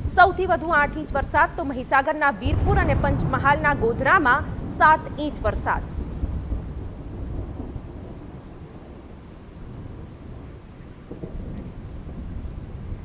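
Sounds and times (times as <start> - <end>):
low rumbling thunder: 0.0 - 13.0
rain falling: 0.0 - 13.0.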